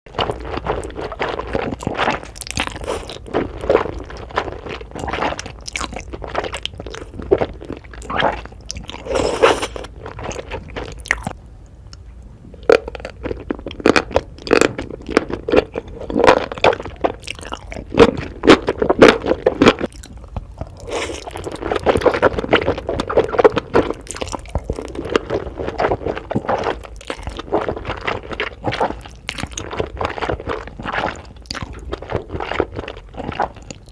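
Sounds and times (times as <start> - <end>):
crunchy chewing of food: 0.1 - 33.9.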